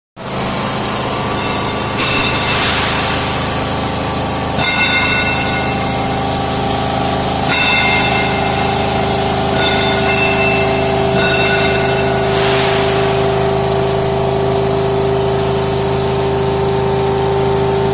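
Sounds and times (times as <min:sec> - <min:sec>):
machine hum: 0:00.2 - 0:17.2
high-pitched drilling whine: 0:00.2 - 0:17.9.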